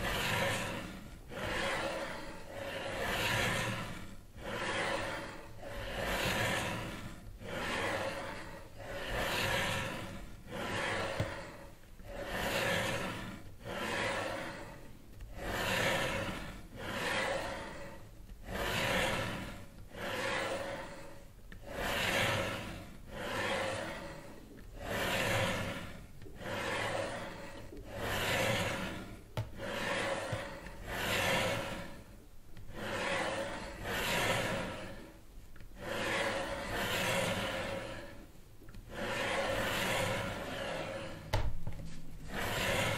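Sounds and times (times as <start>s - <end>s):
rhythmic rubbing rasping noise: 0.0s - 42.9s.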